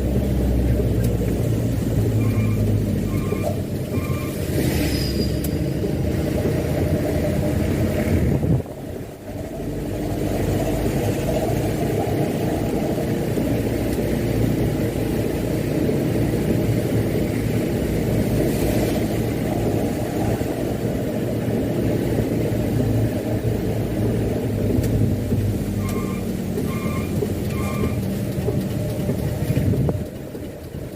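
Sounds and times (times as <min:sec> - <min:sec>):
diesel truck engine running: 0:00.0 - 0:30.9.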